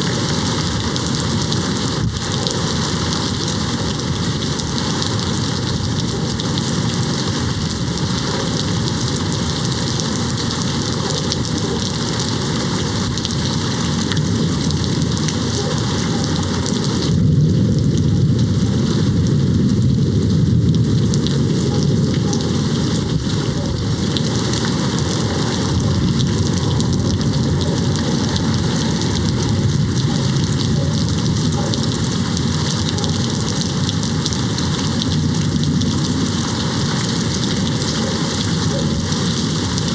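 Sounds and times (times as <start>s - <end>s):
distant thunder rumbling: 0.0s - 39.9s
rain hitting a window: 0.0s - 39.9s.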